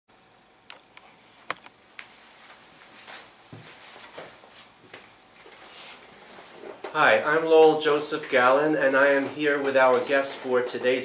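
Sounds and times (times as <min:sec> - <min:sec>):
person rustling and shuffling: 0:00.8 - 0:11.0.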